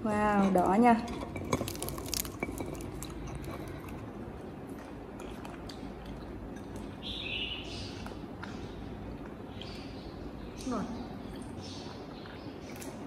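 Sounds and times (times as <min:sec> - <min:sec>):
wet chewing clicks and squishes: 0:01.5 - 0:07.3, 0:07.9 - 0:13.0.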